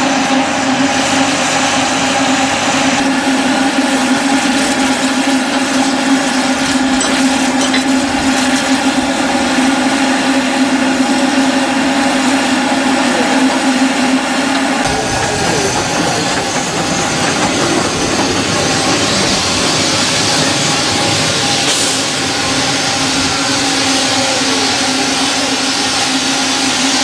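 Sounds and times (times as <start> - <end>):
steam hissing: 0.0 - 27.0.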